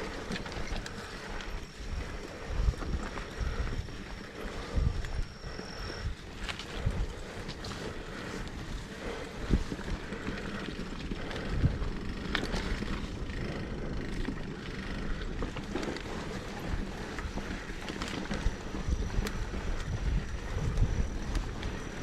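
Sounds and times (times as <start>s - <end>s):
tyre and wind noise: 0.0s - 22.0s.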